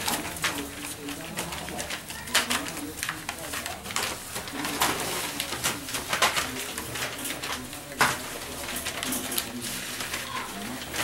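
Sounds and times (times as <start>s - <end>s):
newspaper crackling under paws: 0.0s - 11.0s.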